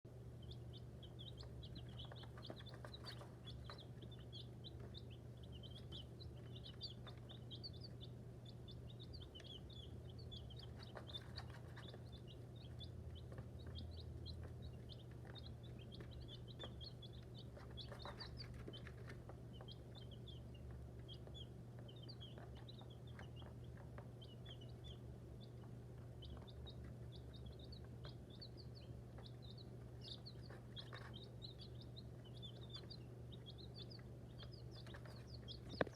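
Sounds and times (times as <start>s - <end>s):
chicks peeping: 0.1s - 35.9s.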